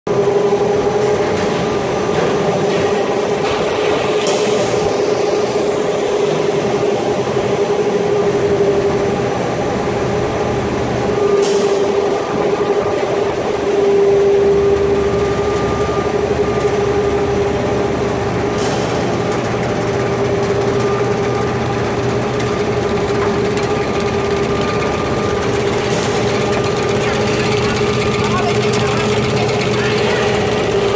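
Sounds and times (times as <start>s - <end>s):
factory machinery drone: 0.1s - 30.9s.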